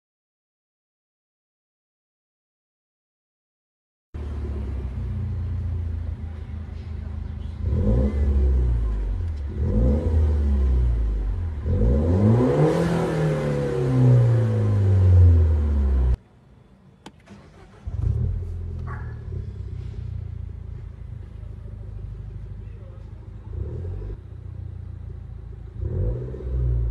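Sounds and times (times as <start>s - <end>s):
engine idling and revving: 4.2s - 16.2s, 17.1s - 26.9s.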